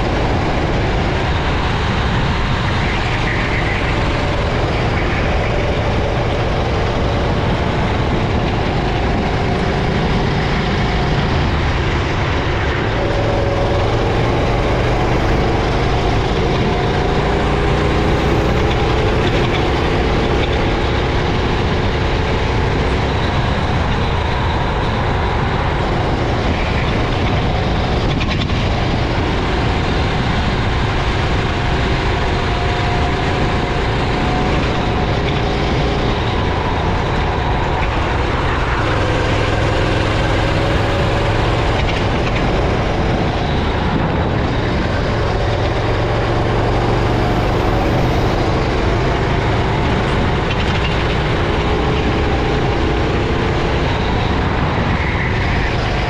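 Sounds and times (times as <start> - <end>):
racing kart engine: 0.0 - 56.0
track noise: 0.0 - 56.0
wind rush: 0.0 - 56.0.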